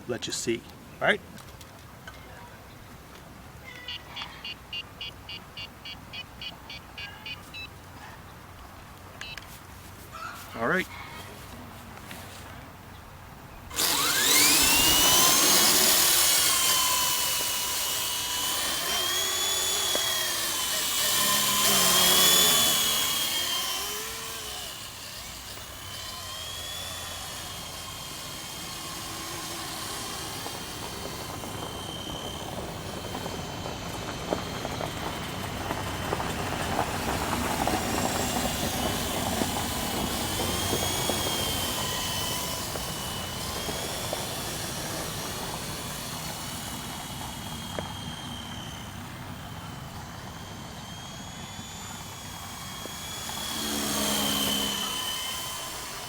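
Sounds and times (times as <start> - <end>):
rc helicopter rotor whine: 10.2 - 56.0.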